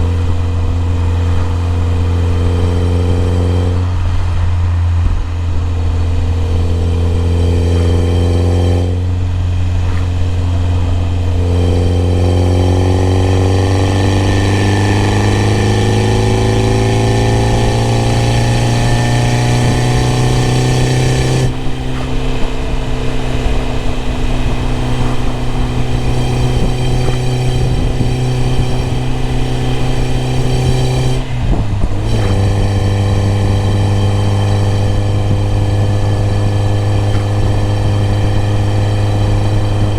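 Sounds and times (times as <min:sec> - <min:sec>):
car engine droning: 0:00.0 - 0:39.9
rising whine: 0:00.0 - 0:39.9.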